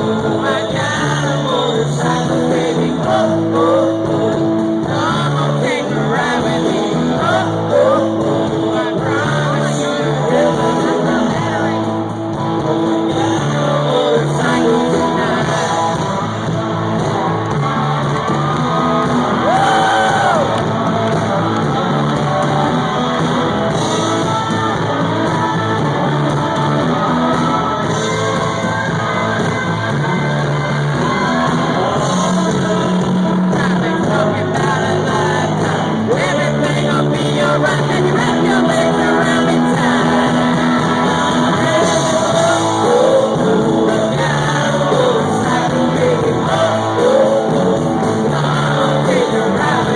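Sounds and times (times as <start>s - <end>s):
live country-rock band: 0.0s - 49.9s
man singing lead vocal: 0.0s - 49.9s.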